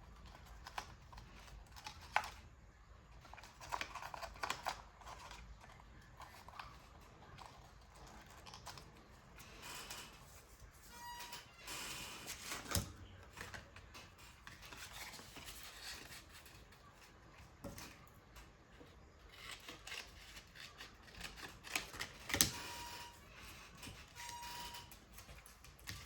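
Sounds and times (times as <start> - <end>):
paper rustling and scraping: 0.0 - 10.9, 12.2 - 26.0.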